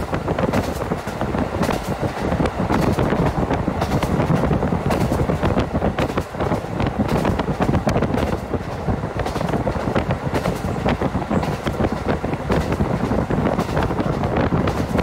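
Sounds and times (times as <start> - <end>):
train clicks and knocks: 0.0 - 15.0
train rumbling: 0.0 - 15.0
wind on microphone: 0.0 - 15.0.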